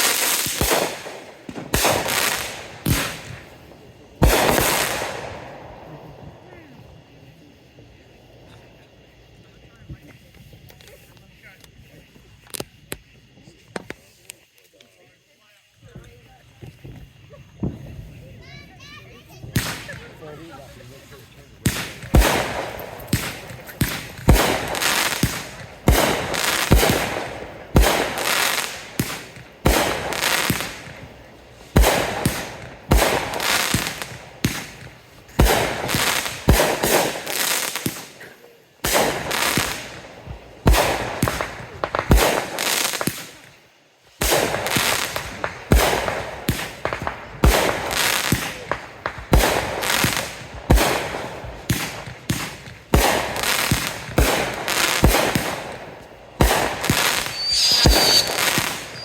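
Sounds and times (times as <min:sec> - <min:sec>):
fireworks bangs: 0:00.0 - 0:14.3, 0:15.8 - 0:59.0.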